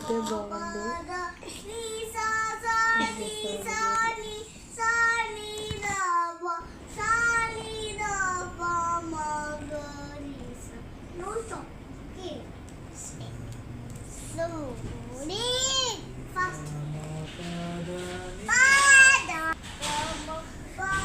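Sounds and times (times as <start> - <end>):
child singing: 0.0 - 10.8, 14.3 - 21.0.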